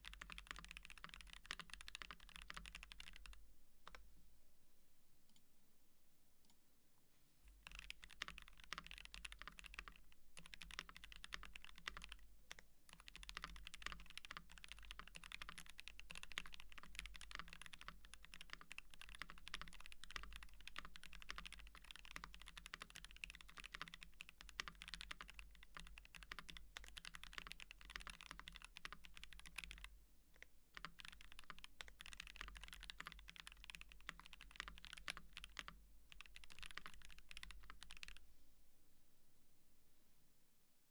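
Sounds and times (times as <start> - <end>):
fast mechanical keyboard typing: 0.0 - 3.4, 7.6 - 38.2.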